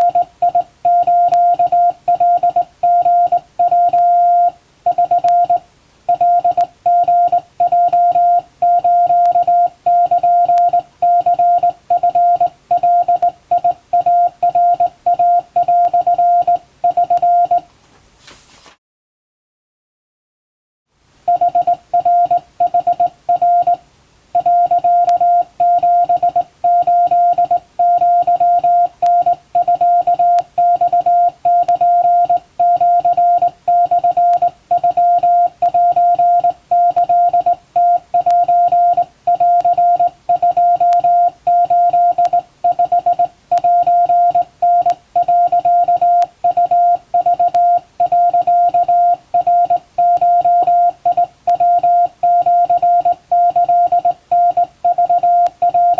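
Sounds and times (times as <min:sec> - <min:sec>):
morse code beeps: 0:00.0 - 0:17.7, 0:21.3 - 0:23.8, 0:24.4 - 0:55.9.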